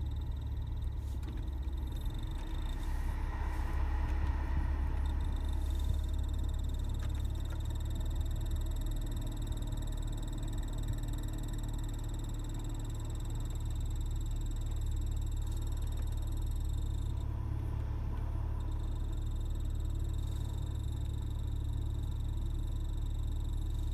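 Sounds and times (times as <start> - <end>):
air conditioning low noise: 0.0 - 23.9.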